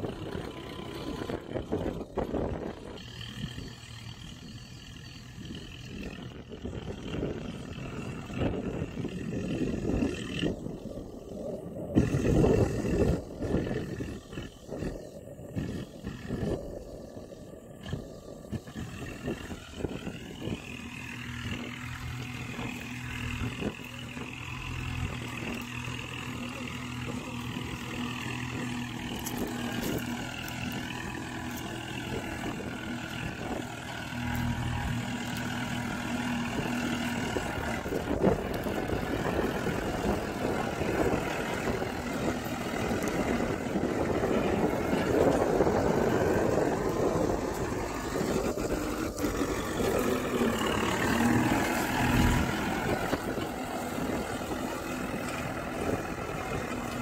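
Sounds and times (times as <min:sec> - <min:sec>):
tractor diesel engine running: 0:00.0 - 0:57.0
wind buffeting microphone: 0:00.0 - 0:57.0.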